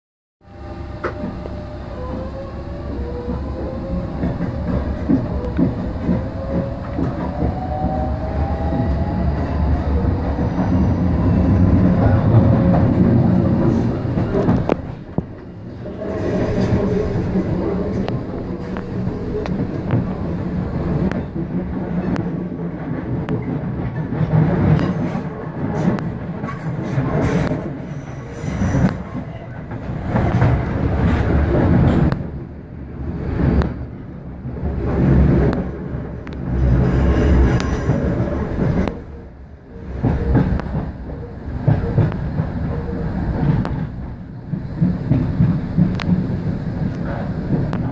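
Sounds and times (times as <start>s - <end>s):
train rumbling on rails: 0.4s - 47.9s
train wheel clatter: 1.0s - 32.4s, 33.0s - 47.9s.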